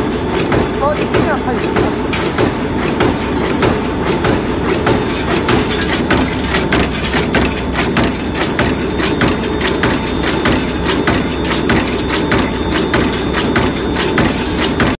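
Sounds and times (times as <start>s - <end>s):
forging machine strikes clattering: 0.0s - 15.0s.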